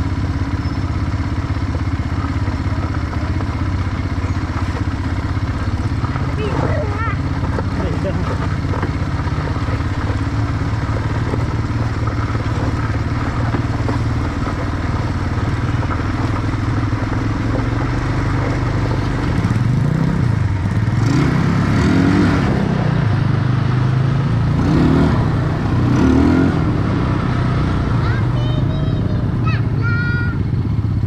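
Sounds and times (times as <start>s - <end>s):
quad bike engine revving: 0.0s - 31.0s.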